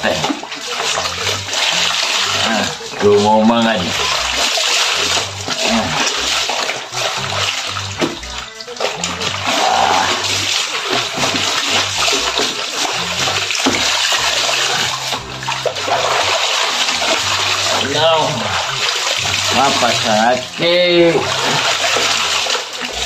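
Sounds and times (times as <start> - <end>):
background music: 0.0 - 23.0
water splashing in washing machine tub: 0.0 - 23.0.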